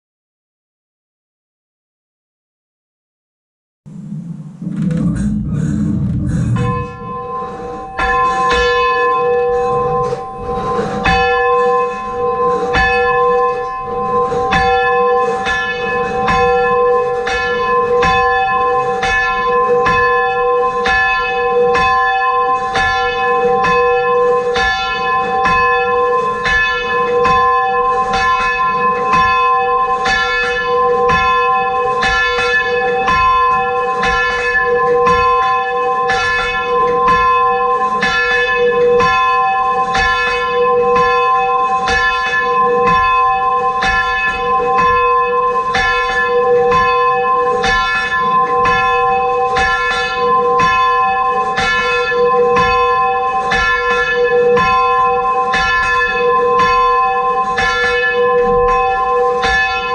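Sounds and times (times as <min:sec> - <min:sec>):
church bells ringing: 0:03.9 - 0:59.9.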